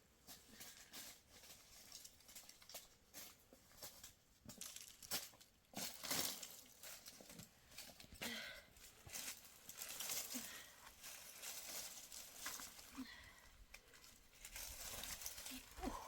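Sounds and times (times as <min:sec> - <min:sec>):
rustling and crinkling material: 0:00.0 - 0:16.0.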